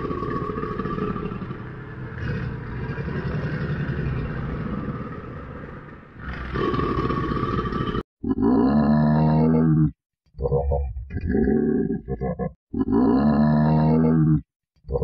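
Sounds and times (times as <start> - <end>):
crocodile growling: 0.0 - 14.4.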